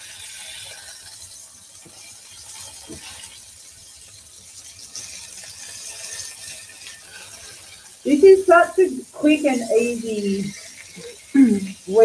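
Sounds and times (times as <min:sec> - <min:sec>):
patties sizzling in a frying pan: 0:00.0 - 0:12.0.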